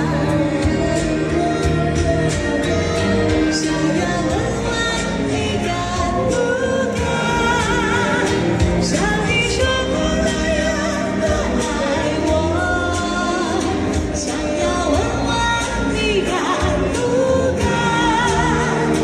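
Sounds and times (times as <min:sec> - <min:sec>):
recorded backing music: 0:00.0 - 0:19.0
woman singing into a microphone: 0:00.0 - 0:19.0.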